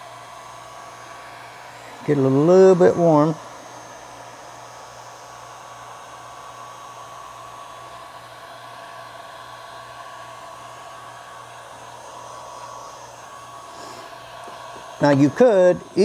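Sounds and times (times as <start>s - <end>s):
heat gun blowing air with whine: 0.0s - 16.0s.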